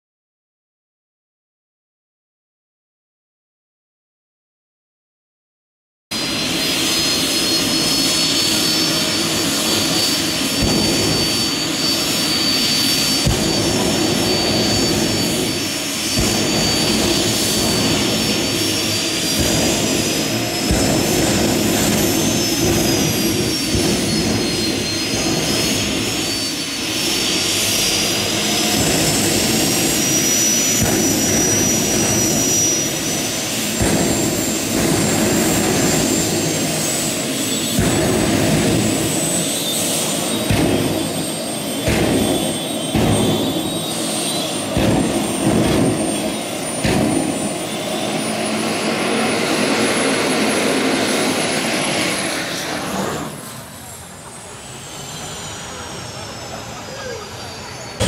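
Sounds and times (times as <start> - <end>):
turbine engine roar and whine: 6.1 - 58.0.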